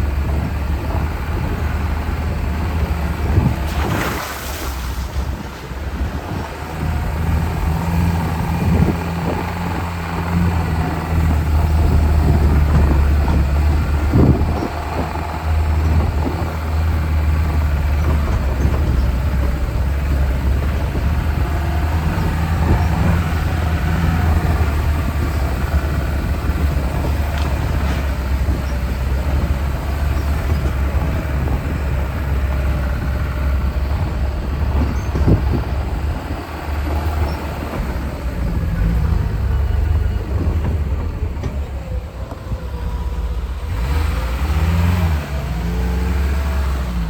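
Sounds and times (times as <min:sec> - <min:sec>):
car engine droning: 0:00.0 - 0:47.0
vehicle rattling over rough ground: 0:00.0 - 0:47.0.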